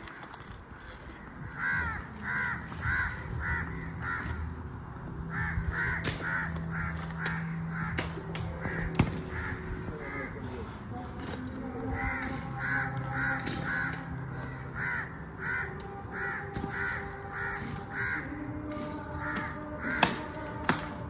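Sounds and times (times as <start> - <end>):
crow cawing: 0.0 - 10.9, 11.6 - 21.0.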